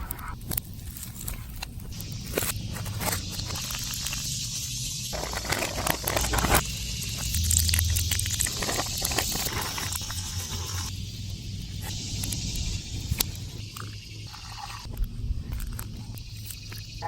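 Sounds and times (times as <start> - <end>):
campfire hissing: 0.0 - 17.0
fire crackling: 0.0 - 17.0.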